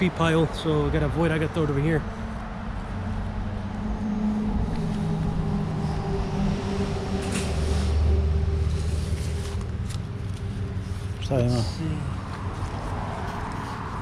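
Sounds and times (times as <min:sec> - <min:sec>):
traffic on bridge overhead: 0:00.0 - 0:14.0.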